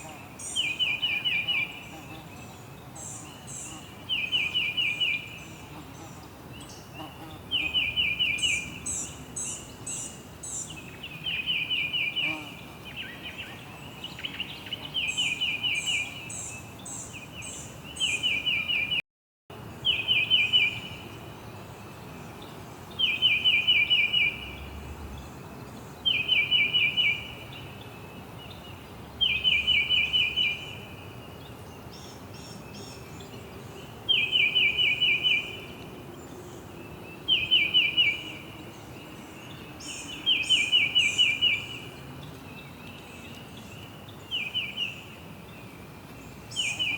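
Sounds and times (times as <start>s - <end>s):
steady background hiss: 0.0s - 19.0s, 19.6s - 46.9s.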